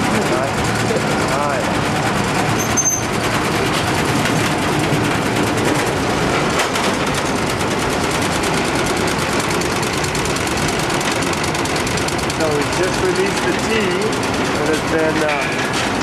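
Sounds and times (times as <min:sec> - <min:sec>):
machinery rapid mechanical clatter: 0:00.0 - 0:16.0.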